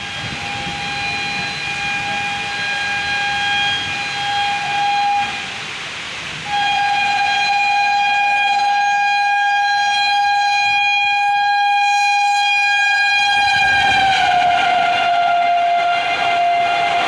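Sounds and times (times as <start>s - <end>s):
locomotive horn blast: 0.0s - 5.7s, 6.3s - 17.0s
rumble of passing train: 0.0s - 17.0s.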